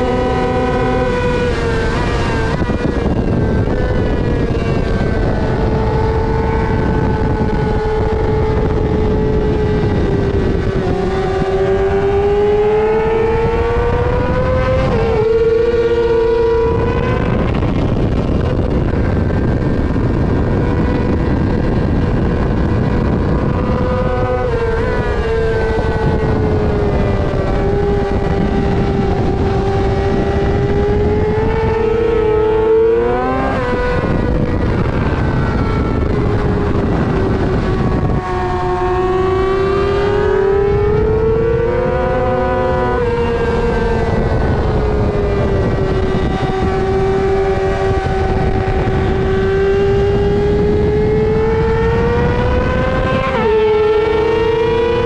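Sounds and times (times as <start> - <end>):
heavy wind rush: 0.0 - 55.0
motorcycle engine at racing speed: 0.0 - 55.0.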